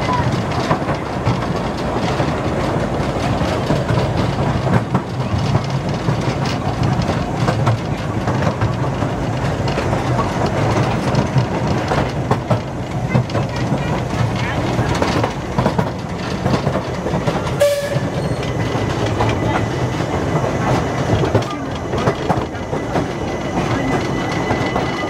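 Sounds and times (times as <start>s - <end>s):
train carriage rumble: 0.0s - 25.0s
wheels clacking over rails: 0.0s - 25.0s.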